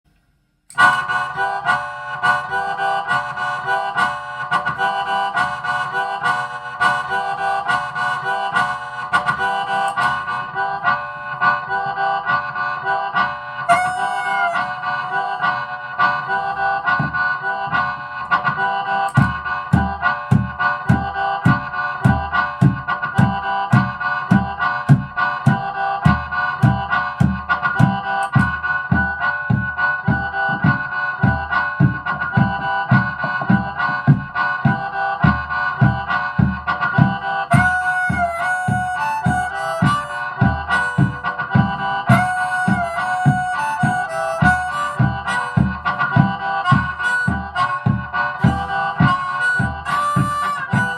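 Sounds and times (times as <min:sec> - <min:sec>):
harmonica playing chords: 0:00.7 - 0:50.9
low thumping beat: 0:00.8 - 0:50.9.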